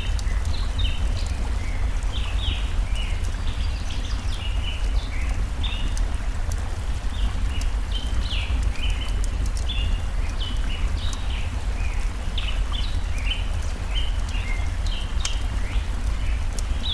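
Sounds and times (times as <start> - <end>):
small birds chirping: 0.0 - 16.9
stream water rushing: 0.0 - 16.9
wood fire crackling: 0.0 - 16.9.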